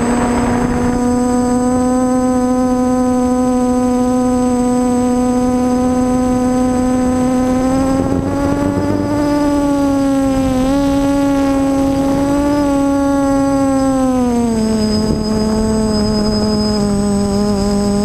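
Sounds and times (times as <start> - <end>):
drone propellers whining: 0.0 - 18.0
wind rumble on microphone: 0.0 - 18.0.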